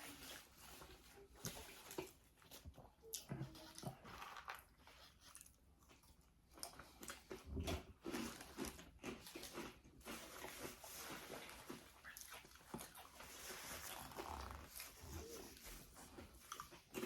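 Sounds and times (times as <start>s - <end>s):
chewing and biting sandwich: 0.0s - 17.0s.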